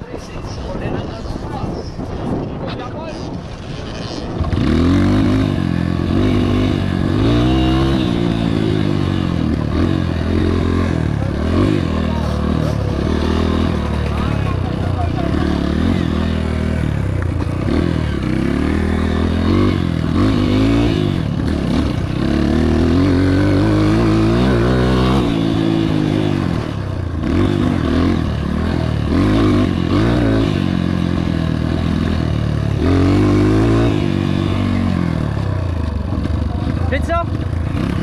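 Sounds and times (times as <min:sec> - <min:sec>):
dirt bike engine revving: 0:03.3 - 0:38.0.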